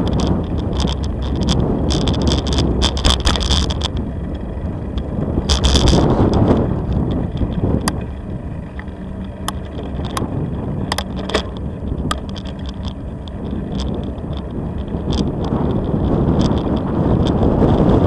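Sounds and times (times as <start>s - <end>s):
bicycle clicks and rattles: 0.0s - 18.0s
wind on microphone: 0.0s - 18.0s.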